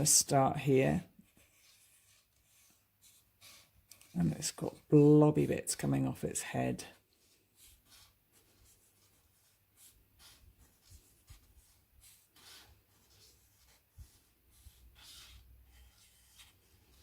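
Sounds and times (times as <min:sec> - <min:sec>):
pencil strokes scratching on paper: 0:00.0 - 0:17.0.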